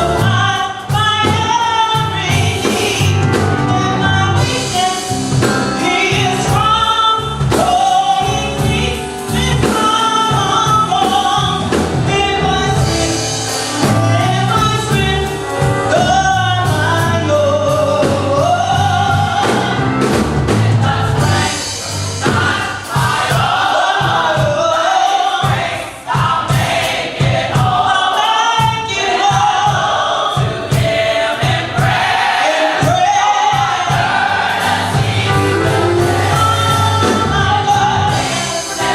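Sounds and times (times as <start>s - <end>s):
band accompaniment: 0.0s - 38.9s
vocal group singing in harmony: 0.0s - 38.9s.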